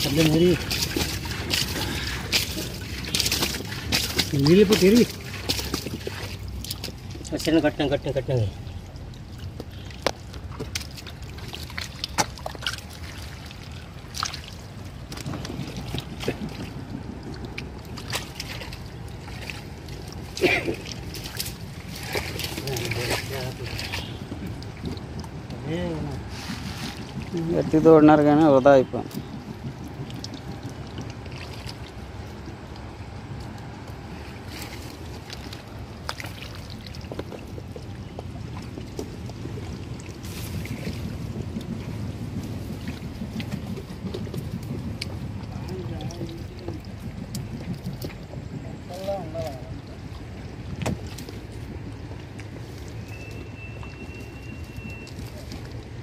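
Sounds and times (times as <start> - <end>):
sharp splashes or knocks: 0.0 - 7.7, 9.0 - 32.2, 33.6 - 48.3, 49.4 - 53.0
low steady rumble: 0.0 - 56.0
water trickling and sloshing: 0.0 - 56.0.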